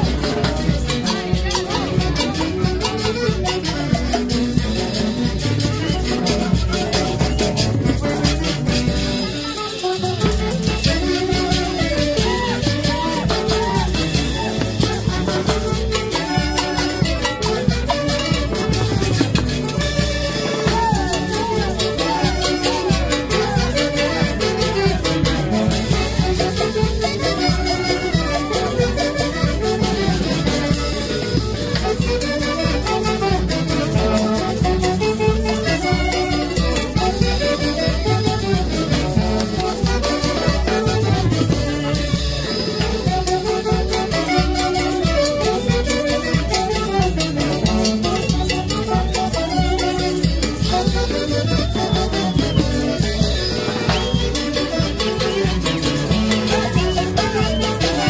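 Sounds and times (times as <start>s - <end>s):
saxophones and violin dance tune: 0.4s - 58.0s.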